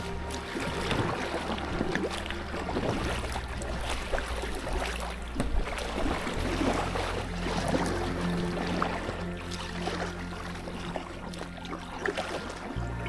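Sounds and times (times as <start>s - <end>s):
paddle strokes splashing: 0.0s - 13.0s
river water washing: 0.0s - 13.0s
water dripping: 0.0s - 13.0s.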